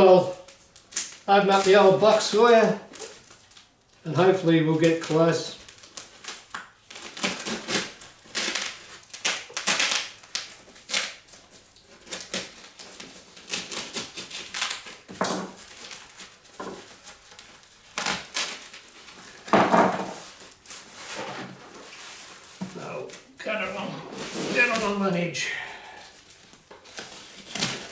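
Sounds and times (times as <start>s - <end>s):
cardboard and packaging rustling: 0.2s - 27.9s.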